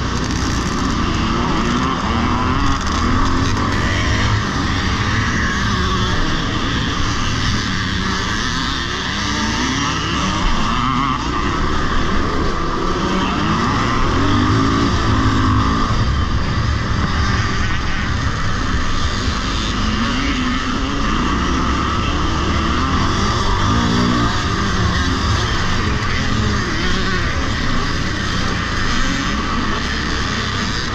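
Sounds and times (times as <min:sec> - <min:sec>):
motorcycle engine revving: 0:00.0 - 0:30.9
other motorcycle engines: 0:00.0 - 0:30.9.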